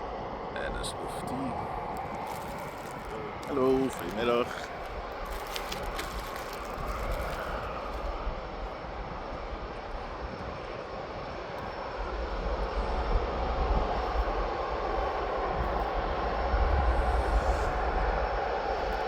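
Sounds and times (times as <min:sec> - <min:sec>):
jet airliner engines departing: 0:00.0 - 0:19.0.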